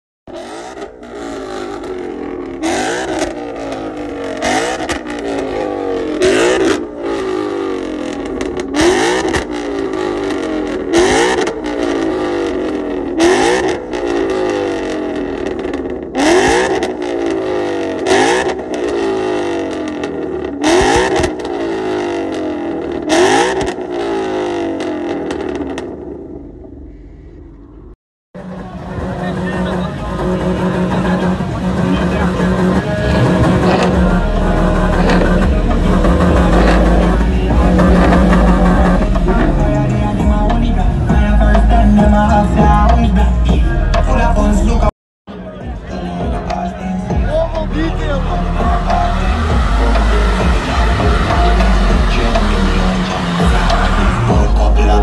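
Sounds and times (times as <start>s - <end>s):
car engine revving: 0.3s - 55.0s.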